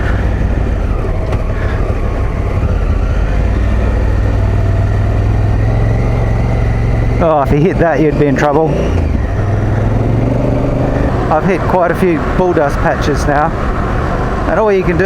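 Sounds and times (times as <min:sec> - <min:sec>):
motorcycle engine cruising: 0:00.0 - 0:15.0
wind and tyre noise: 0:00.0 - 0:15.0.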